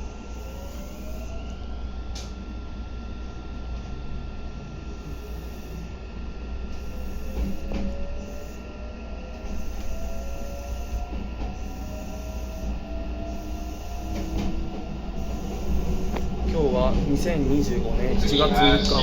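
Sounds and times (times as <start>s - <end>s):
electric train motor whine: 0.0s - 19.0s
train running noise: 0.0s - 19.0s.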